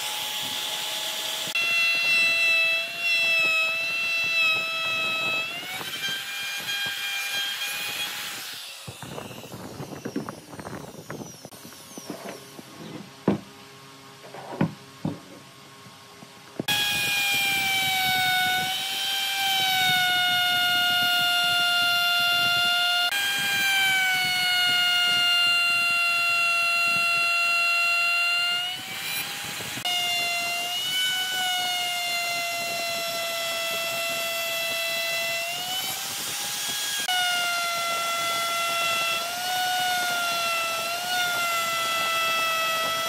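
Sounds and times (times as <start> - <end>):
power tool motor whining on wood: 0.0 - 13.4, 16.6 - 43.0.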